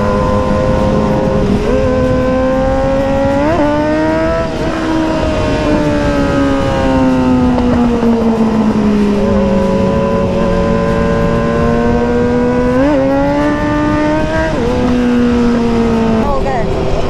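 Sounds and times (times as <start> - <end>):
engine throttle blip: 0.0 - 17.0
motorcycle engines running: 0.0 - 17.0.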